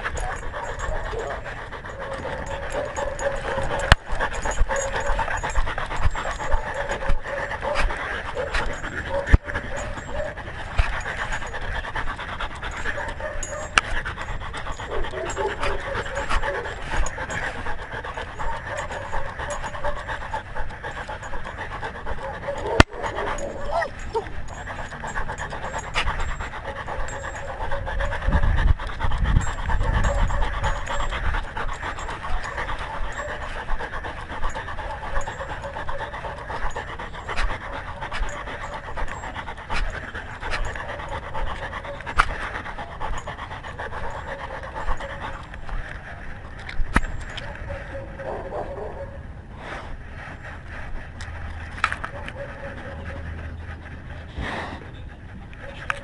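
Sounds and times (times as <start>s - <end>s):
dog panting: 0.0s - 56.0s.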